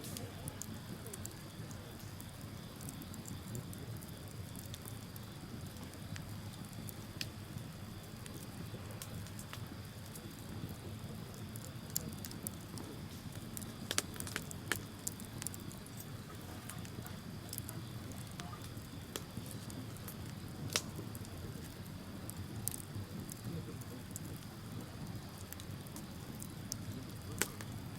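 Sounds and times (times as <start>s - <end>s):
rush of flame: 0.0s - 27.9s
wood crackling and popping: 0.0s - 27.9s.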